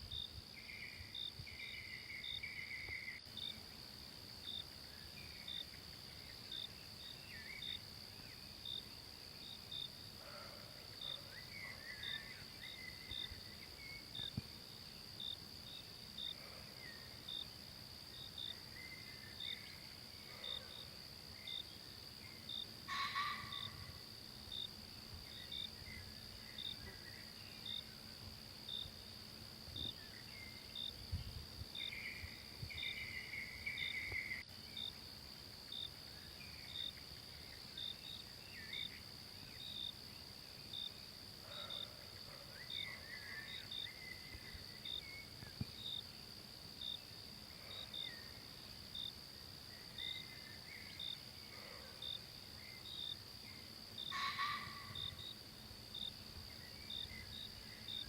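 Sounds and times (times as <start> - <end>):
insect chirps: 0.0 - 58.0
insects droning: 0.0 - 58.0.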